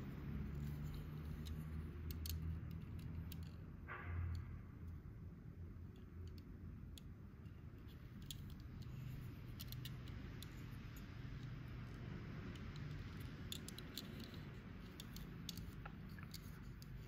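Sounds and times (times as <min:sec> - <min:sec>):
low steady hum: 0:00.0 - 0:17.0
fingers handling model car clicks: 0:00.3 - 0:03.6, 0:05.9 - 0:17.0.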